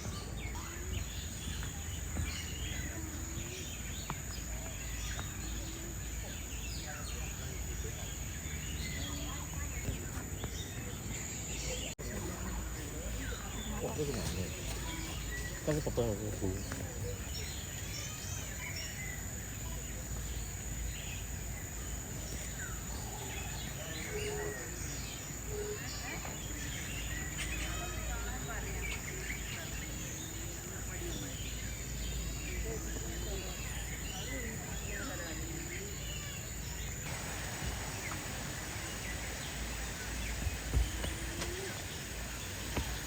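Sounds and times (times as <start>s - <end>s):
background hiss: 0.0s - 43.0s
birds chirping and whistling: 0.0s - 43.0s.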